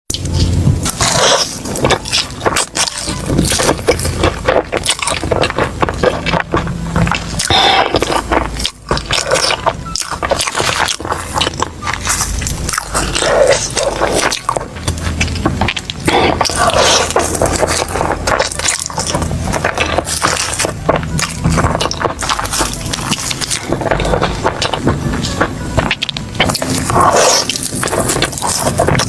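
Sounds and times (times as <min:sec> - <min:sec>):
chewing and mouth noises: 0:00.1 - 0:29.0.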